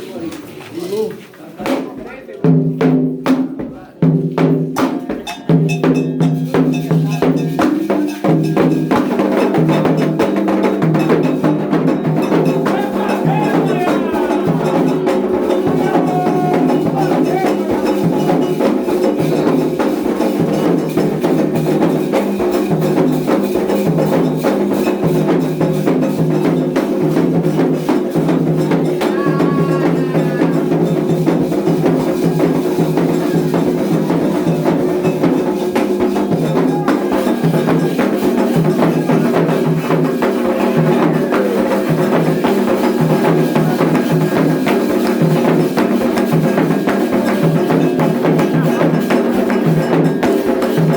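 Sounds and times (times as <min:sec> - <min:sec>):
samba music with percussion: 0:00.0 - 0:50.9.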